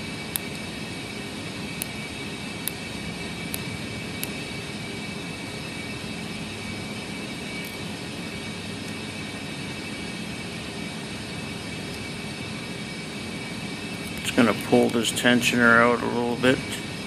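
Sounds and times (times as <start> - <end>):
mechanical background hum: 0.0 - 17.0.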